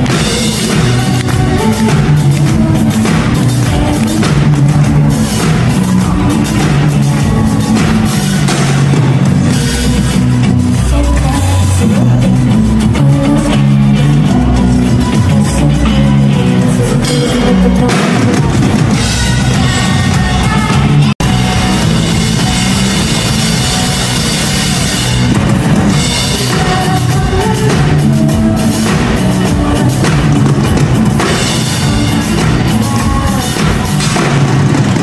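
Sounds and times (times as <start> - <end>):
pop-rock band playing: 0.0 - 35.0.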